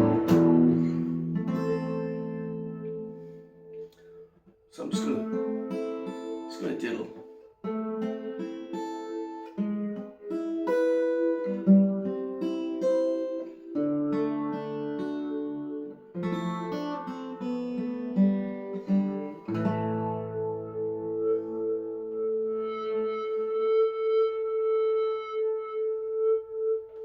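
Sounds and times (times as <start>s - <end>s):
acoustic guitar picked and strummed: 0.0s - 23.7s.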